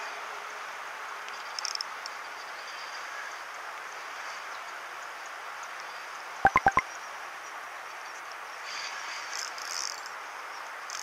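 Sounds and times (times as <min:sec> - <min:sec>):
steady outdoor hiss: 0:00.1 - 0:11.0.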